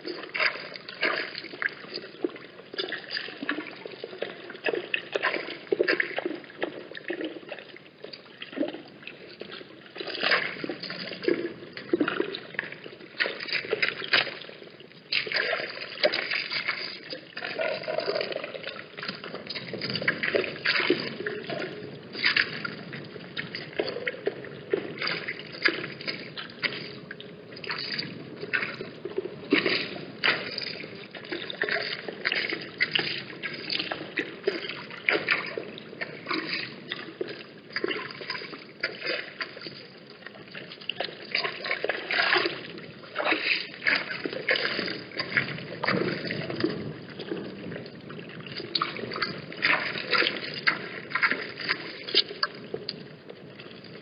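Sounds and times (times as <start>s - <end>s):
water splashing and lapping: 0.0s - 54.0s.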